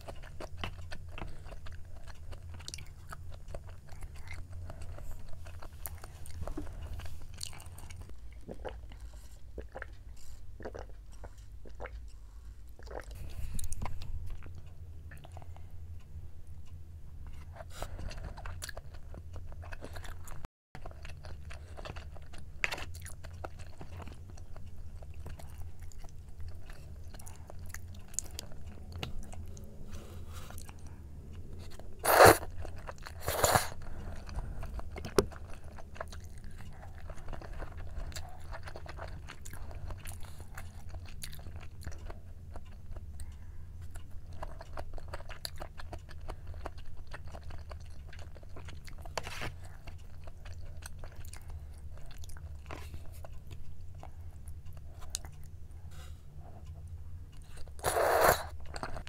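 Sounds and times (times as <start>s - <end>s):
chewing food: 0.0s - 59.0s
low steady hum: 0.0s - 59.0s.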